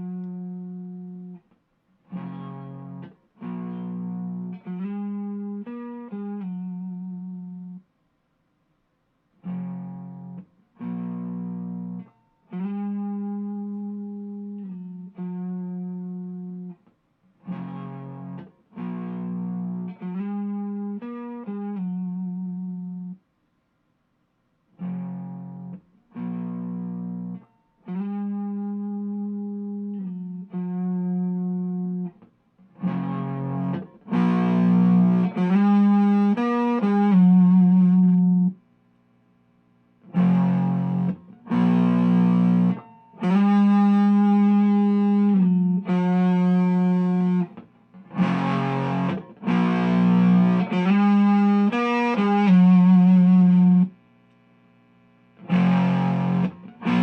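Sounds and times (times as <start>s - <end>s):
distorted electric guitar: 2.1s - 7.8s, 9.4s - 16.8s, 17.4s - 23.2s, 24.8s - 38.6s, 40.0s - 57.0s.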